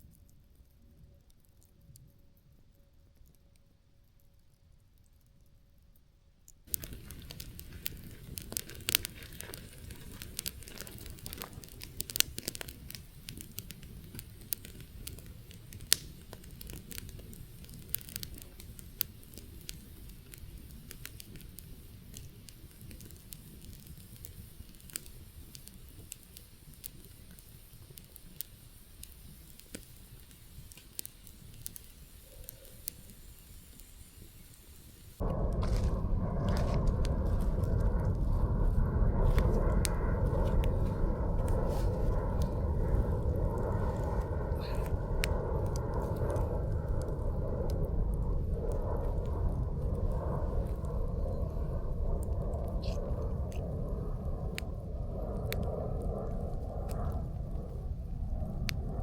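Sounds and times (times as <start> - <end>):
campfire crackling and popping: 0.0 - 59.0
low fire rumble: 0.0 - 59.0.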